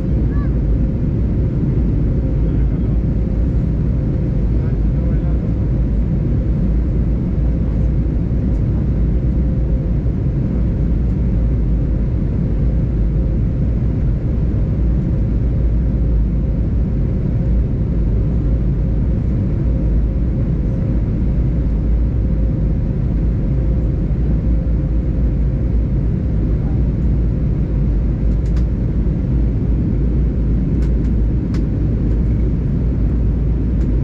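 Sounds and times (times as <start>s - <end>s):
aircraft engine and airflow rumble: 0.0s - 34.0s.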